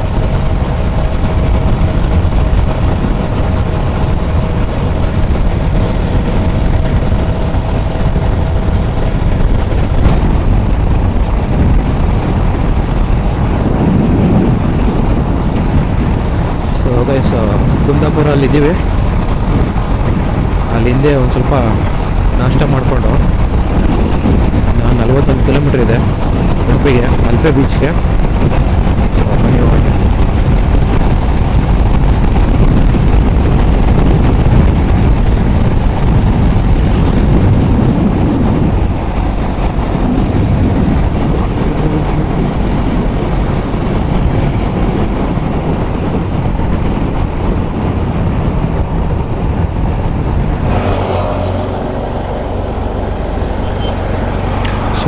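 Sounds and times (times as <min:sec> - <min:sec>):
motorcycle engine: 0:00.0 - 0:55.0
wind rumble on microphone: 0:00.0 - 0:55.0.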